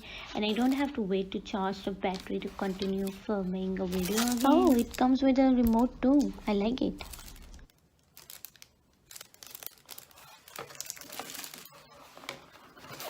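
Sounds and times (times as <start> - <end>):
packaging crinkling: 1.8 - 13.0.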